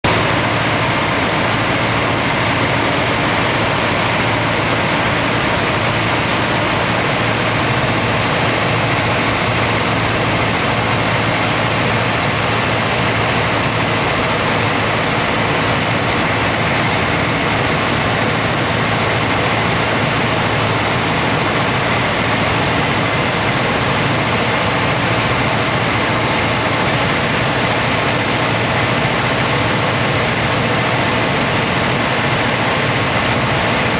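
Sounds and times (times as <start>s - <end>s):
airplane engine and propeller: 0.0s - 33.9s.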